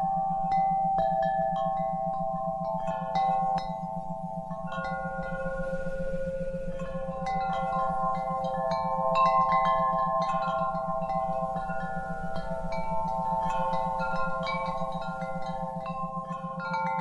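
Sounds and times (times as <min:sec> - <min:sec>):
metal wind chimes ringing: 0:00.0 - 0:17.0.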